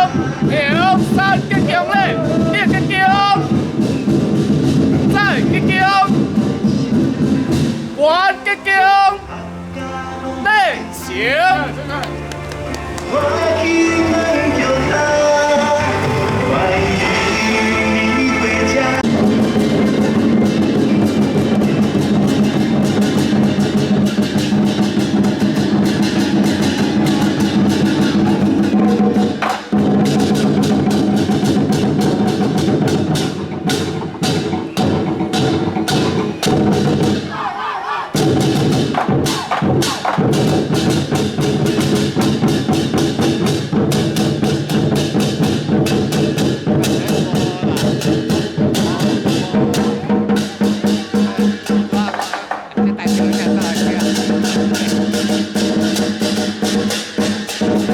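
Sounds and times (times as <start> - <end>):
loud music with drums: 0.0 - 9.2, 10.6 - 37.4, 38.2 - 57.9.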